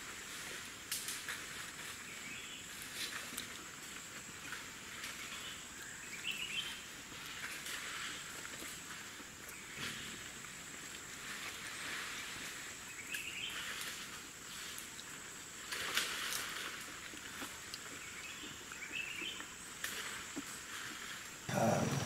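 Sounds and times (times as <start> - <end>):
insects hissing: 3.9 - 22.0.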